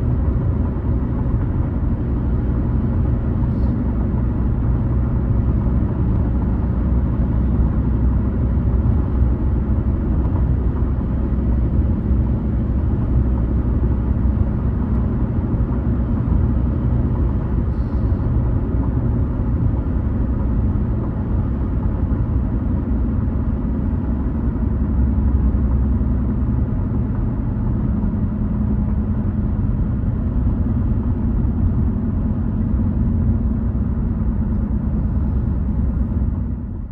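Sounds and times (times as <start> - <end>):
car driving on highway: 0.0 - 36.9.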